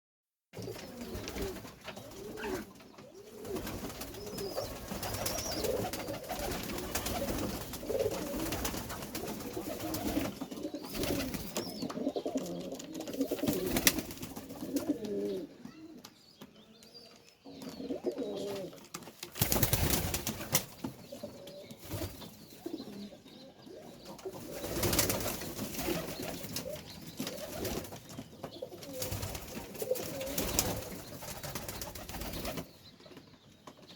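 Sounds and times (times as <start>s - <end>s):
pigeons cooing: 0.6s - 16.0s, 17.4s - 20.2s, 21.0s - 32.7s.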